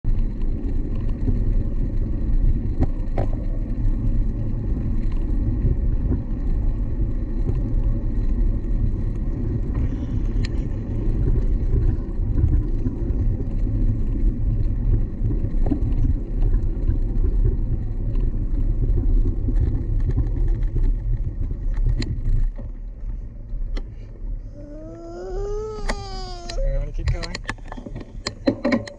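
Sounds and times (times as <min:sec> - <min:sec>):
low rumble: 0:00.1 - 0:28.2.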